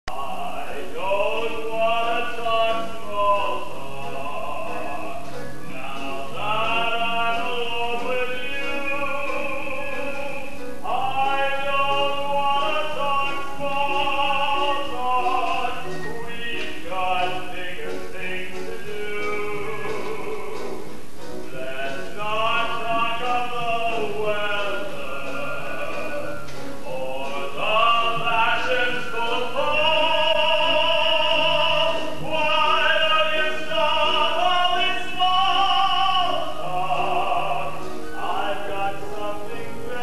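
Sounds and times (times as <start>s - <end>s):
person singing with vibrato: 0.1s - 40.0s
soft instrumental accompaniment: 0.1s - 40.0s.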